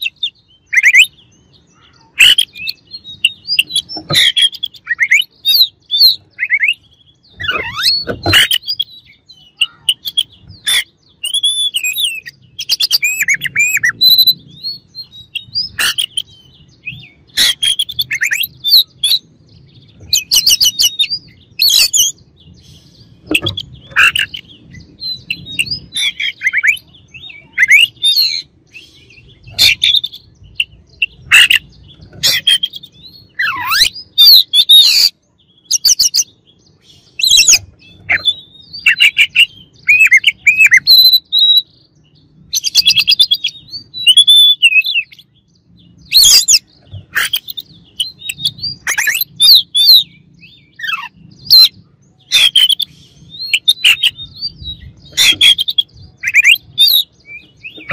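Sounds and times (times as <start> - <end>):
bird singing whistled phrases: 0.0 - 19.2, 20.1 - 41.7, 42.6 - 45.3, 46.0 - 57.9.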